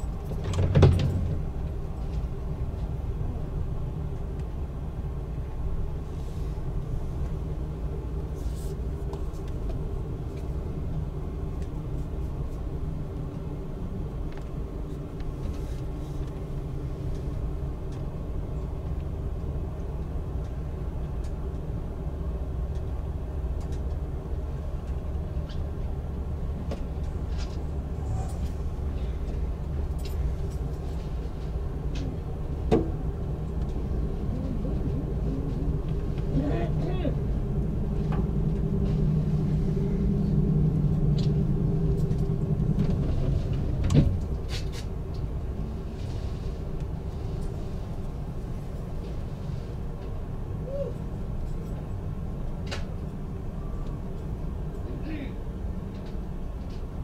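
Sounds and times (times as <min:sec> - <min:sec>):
train rumble from inside: 0:00.0 - 0:57.0.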